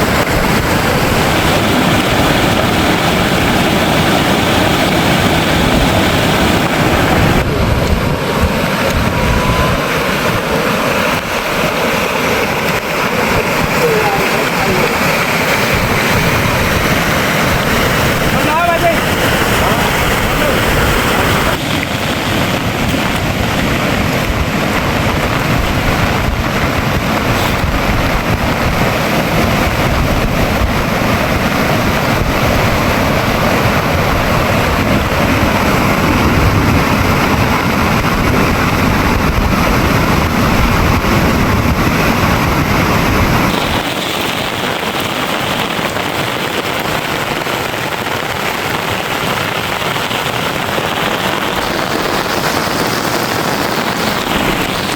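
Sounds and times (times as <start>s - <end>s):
heavy rain pouring: 0.0s - 54.9s
wind rumbling on microphone: 0.0s - 54.9s.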